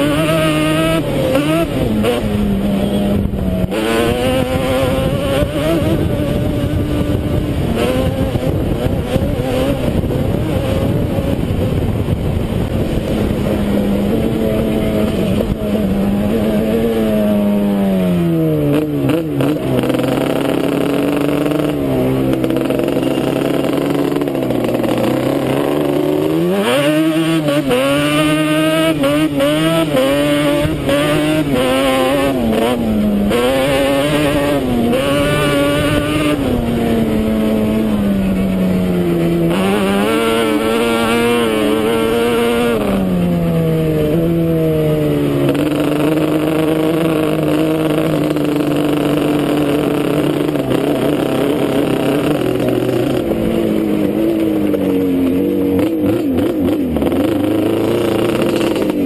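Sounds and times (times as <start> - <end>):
two-stroke atv engine revving: 0.0 - 59.0.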